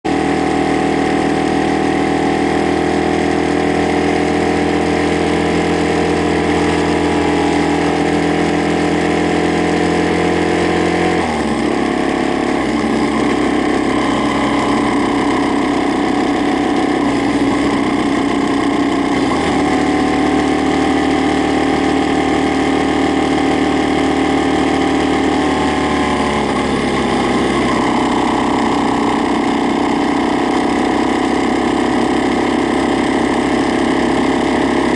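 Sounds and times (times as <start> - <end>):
motorcycle engine idling: 0.1 - 10.3, 11.3 - 19.4, 20.0 - 34.9.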